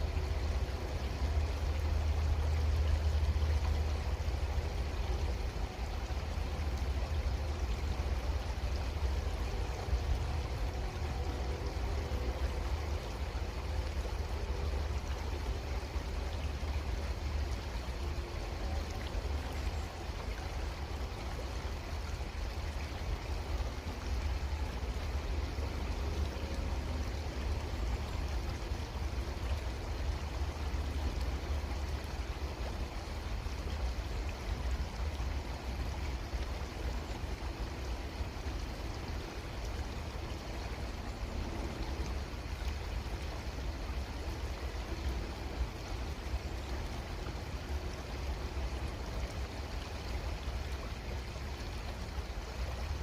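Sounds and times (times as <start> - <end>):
creek water flowing: 0.0 - 53.0.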